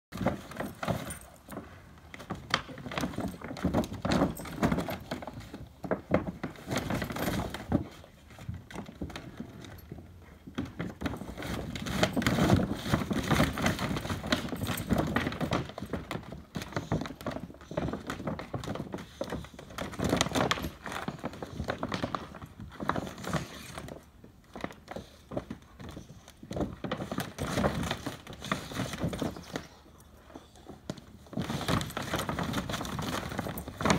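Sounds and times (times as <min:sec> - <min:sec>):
plastic pool knocking and crinkling: 0:00.1 - 0:33.9.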